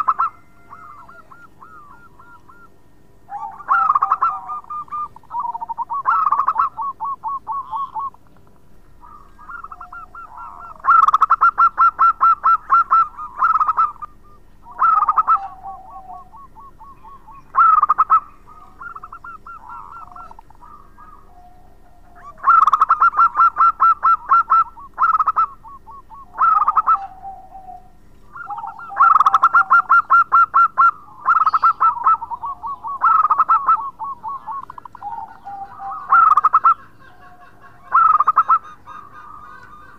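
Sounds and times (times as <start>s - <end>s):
soft trilled coos: 0.0s - 8.3s, 8.9s - 39.9s
dove cooing: 0.0s - 39.9s.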